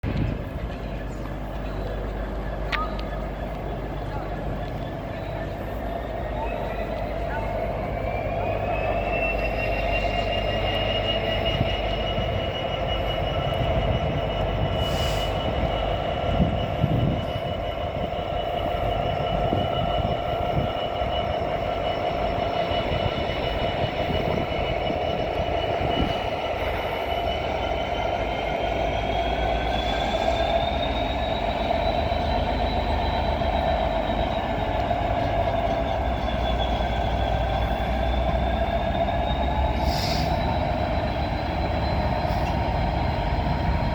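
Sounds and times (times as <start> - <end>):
diesel train rumbling: 0.0 - 43.9.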